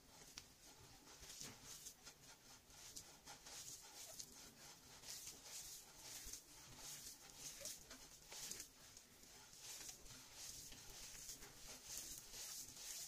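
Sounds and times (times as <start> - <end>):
hand rubbing dough in clay bowl: 0.0 - 13.0.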